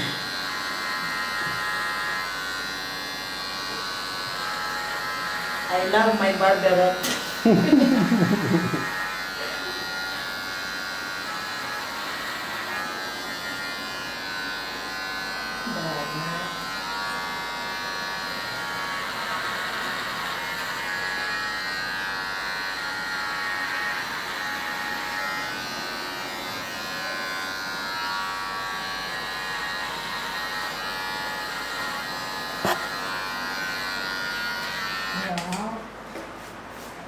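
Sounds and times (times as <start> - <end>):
electric hair clippers buzzing: 0.0 - 36.0.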